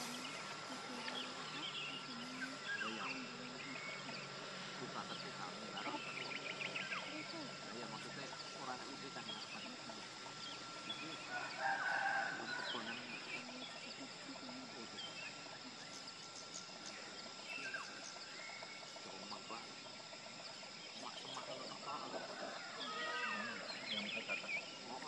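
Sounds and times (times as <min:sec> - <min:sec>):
faint steady high whine: 0:00.0 - 0:25.0.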